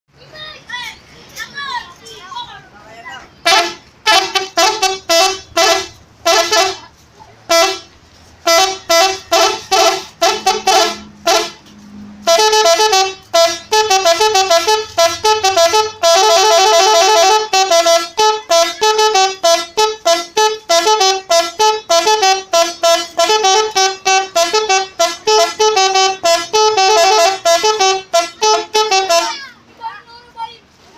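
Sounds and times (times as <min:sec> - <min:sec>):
multi-tone musical horn tooting: 0:03.4 - 0:29.4.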